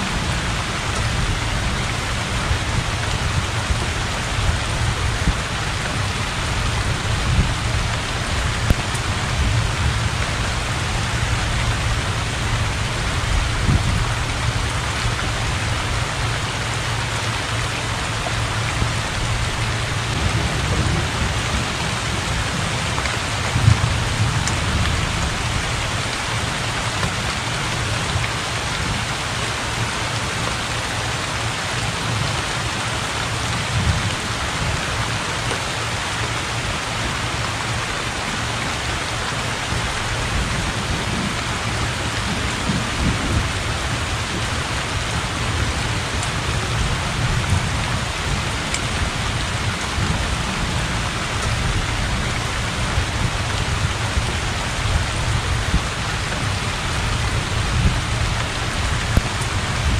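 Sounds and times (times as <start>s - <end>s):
heavy rain on water: 0.0s - 59.9s.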